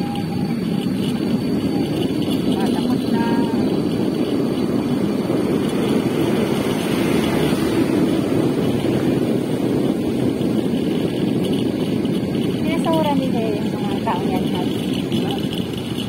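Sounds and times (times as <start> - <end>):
motorcycle engine: 0.0 - 16.0
road noise: 0.0 - 16.0
wind rushing on microphone: 0.0 - 16.0.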